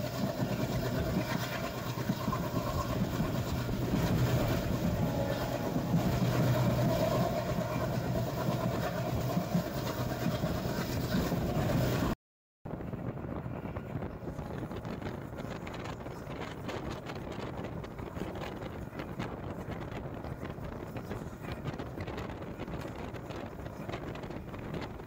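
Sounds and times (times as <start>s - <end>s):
express train running on rails: 0.0s - 12.2s, 12.8s - 25.0s.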